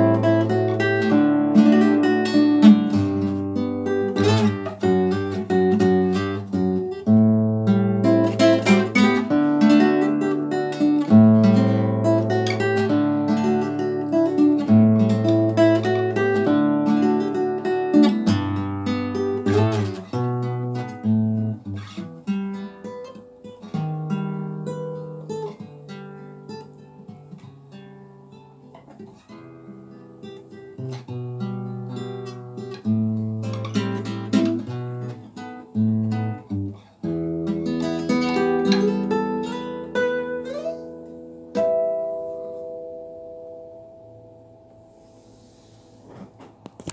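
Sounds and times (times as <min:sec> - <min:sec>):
solo acoustic guitar: 0:00.0 - 0:46.9.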